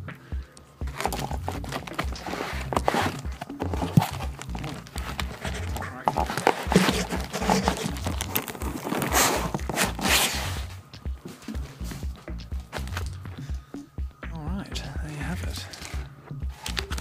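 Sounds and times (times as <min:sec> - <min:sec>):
cardboard and foam packaging rustling: 0:00.8 - 0:13.2, 0:15.5 - 0:17.0.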